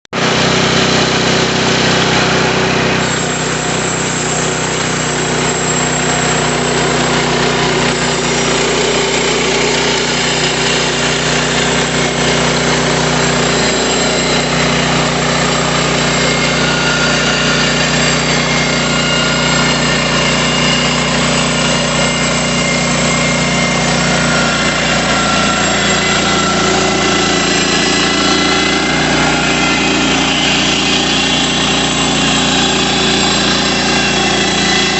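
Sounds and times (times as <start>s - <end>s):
band blade sawing wood: 0.1s - 34.9s
sawmill engine drone: 0.1s - 34.9s.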